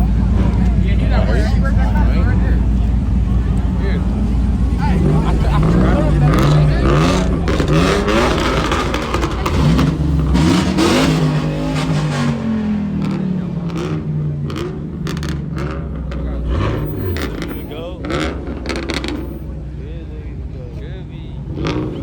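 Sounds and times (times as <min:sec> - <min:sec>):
engine winding down: 0:00.0 - 0:19.5
car engines revving: 0:00.0 - 0:22.0.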